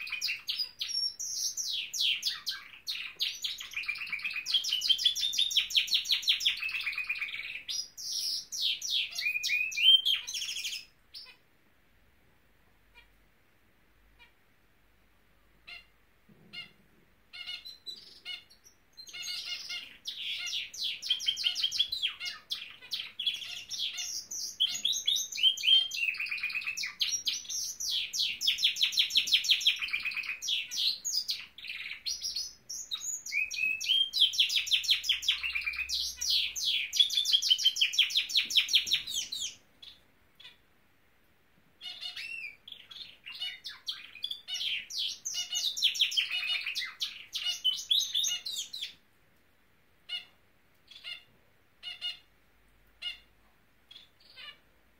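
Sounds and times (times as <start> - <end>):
canary singing trills: 0.0 - 11.5, 12.9 - 13.2, 15.6 - 40.7, 41.8 - 49.0, 50.0 - 54.7.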